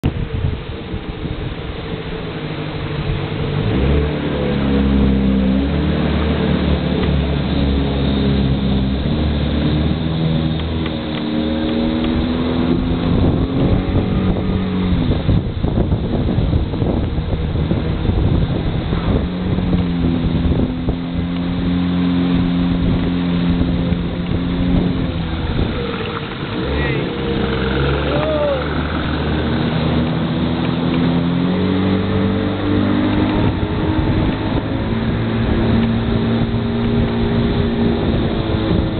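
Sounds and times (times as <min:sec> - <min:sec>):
motorboat engine running: 0:00.0 - 0:38.9
rushing noise: 0:00.0 - 0:38.9.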